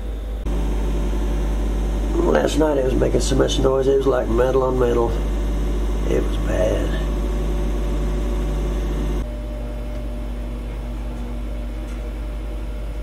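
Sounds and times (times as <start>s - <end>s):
stove blower motor hum: 0.0s - 13.0s.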